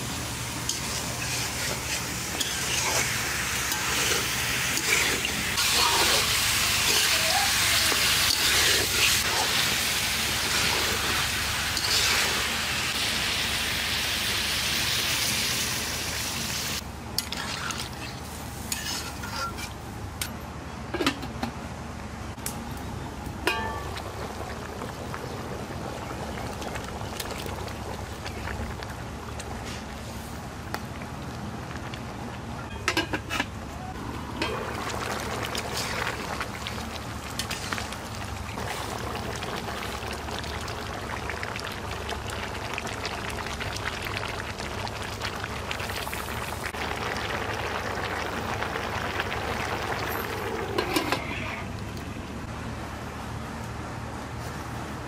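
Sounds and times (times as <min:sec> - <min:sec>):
curry sizzling and bubbling: 0:00.0 - 0:19.8, 0:23.2 - 0:52.5.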